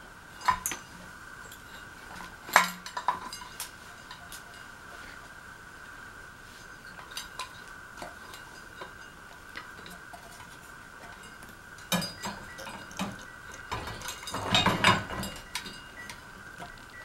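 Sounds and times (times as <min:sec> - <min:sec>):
faint high hum: 0:00.0 - 0:17.0
light metallic clicks and clinks: 0:00.4 - 0:04.8, 0:06.6 - 0:17.0.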